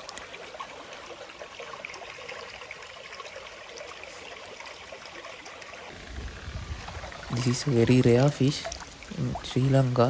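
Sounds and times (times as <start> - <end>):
stream trickling: 0.0 - 10.0.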